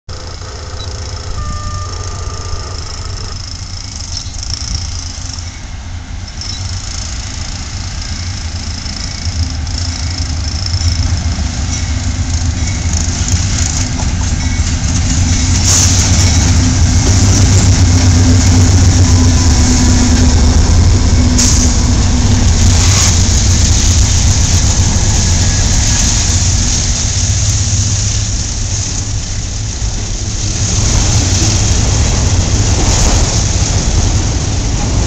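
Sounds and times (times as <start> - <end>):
diesel locomotive engine rumble: 0.1 - 35.0.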